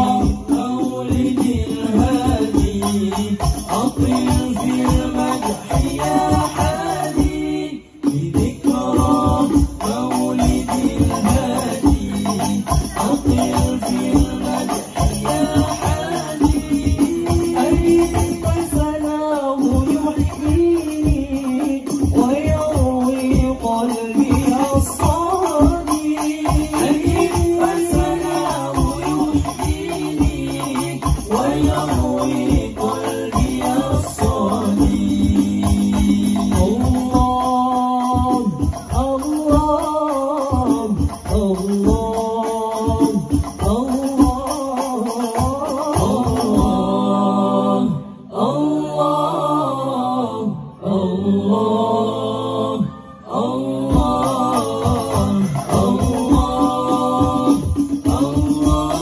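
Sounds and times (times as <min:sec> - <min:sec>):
frame drums drumming: 0:00.0 - 0:46.9, 0:53.9 - 0:59.0
male voices singing together: 0:00.0 - 0:59.0.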